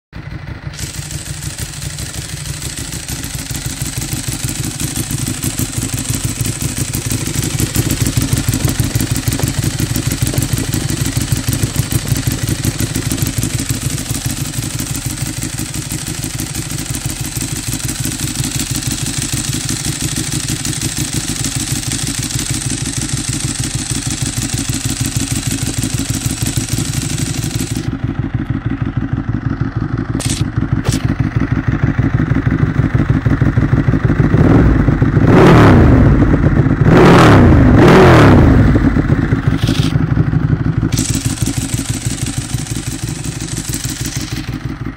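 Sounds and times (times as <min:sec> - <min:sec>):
motorcycle engine idling: 0:00.2 - 0:44.9.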